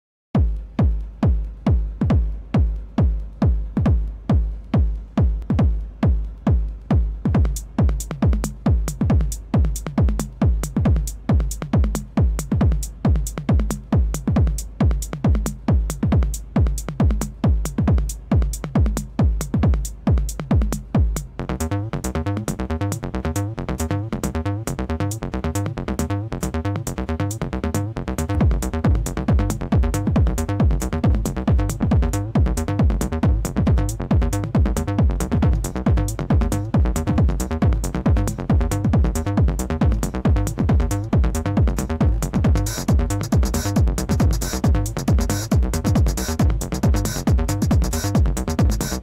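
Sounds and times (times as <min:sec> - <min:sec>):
drum machine kick: 0:00.3 - 0:49.0
hi-hats: 0:00.4 - 0:49.0.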